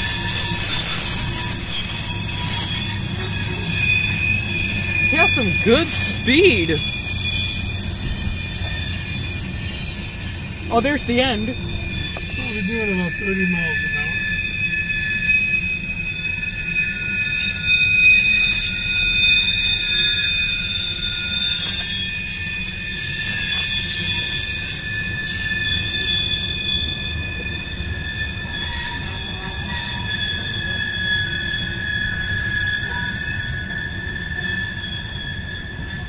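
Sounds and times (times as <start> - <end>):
train wheels squealing on rails: 0.0 - 36.0.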